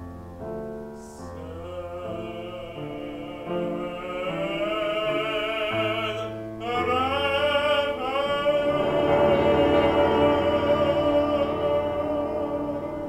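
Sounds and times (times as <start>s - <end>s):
grand piano: 0.0s - 13.0s
man singing operatically: 1.0s - 13.0s.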